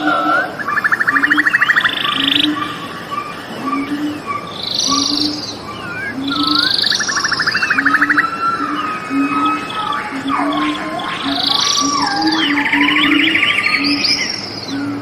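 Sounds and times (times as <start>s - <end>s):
birds chirping: 0.0s - 15.0s
buzzy pulsed trills: 0.0s - 15.0s
frogs chorus: 0.0s - 15.0s.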